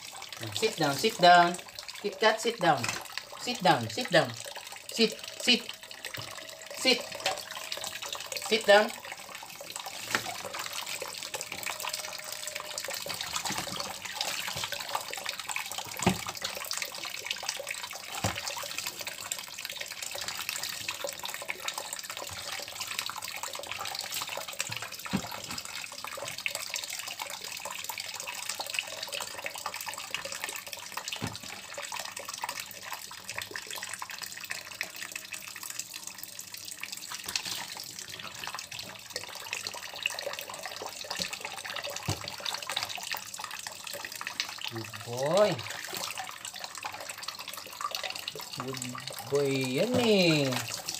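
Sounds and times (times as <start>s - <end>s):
tap running into basin: 2.6s - 35.4s, 36.8s - 50.9s.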